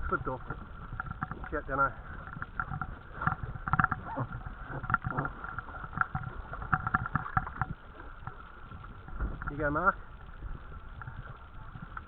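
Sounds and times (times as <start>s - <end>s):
water slapping against hull: 0.0s - 12.0s.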